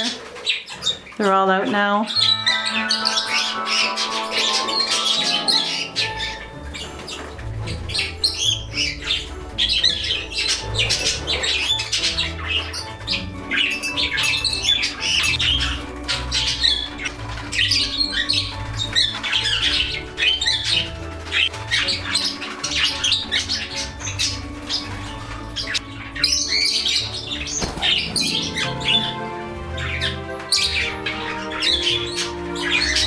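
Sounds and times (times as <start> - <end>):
background music: 0.0 - 33.0
parakeets squawking and chirping: 0.0 - 33.0.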